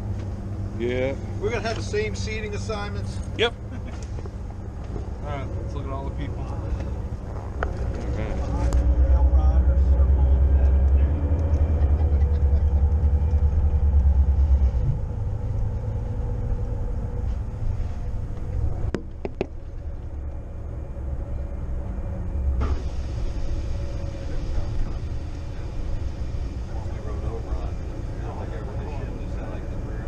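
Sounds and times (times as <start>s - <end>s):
bus engine rumbling: 0.0s - 30.0s.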